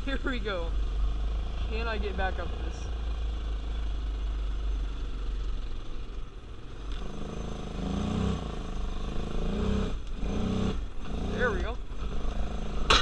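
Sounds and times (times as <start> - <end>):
atv engine under load: 0.0 - 13.0.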